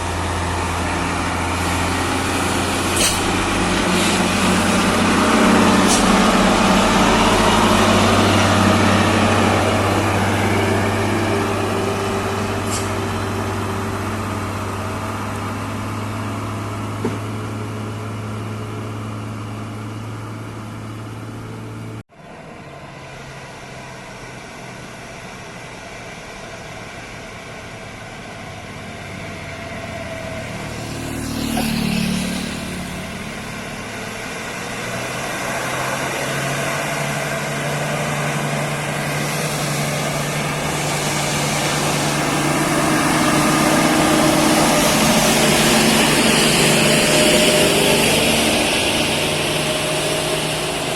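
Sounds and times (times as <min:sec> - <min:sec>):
vehicle engine passing: 0:00.0 - 0:22.0, 0:28.3 - 0:50.9
heavy truck diesel engine: 0:00.0 - 0:50.9.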